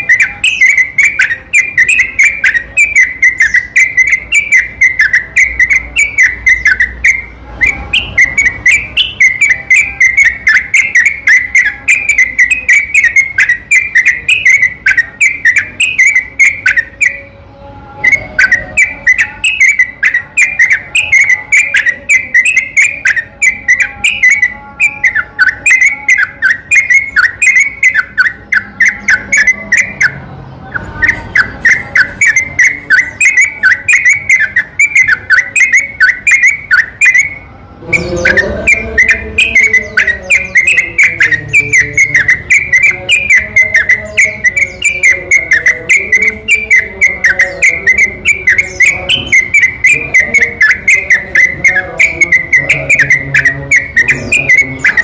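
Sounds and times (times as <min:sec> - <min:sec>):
bulbul chattering whistled song: 0:00.0 - 0:55.0.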